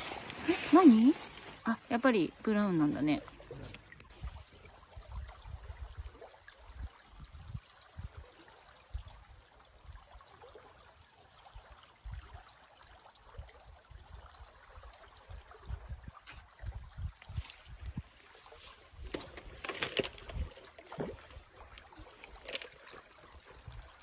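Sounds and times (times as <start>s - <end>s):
stream flowing: 0.0s - 24.0s.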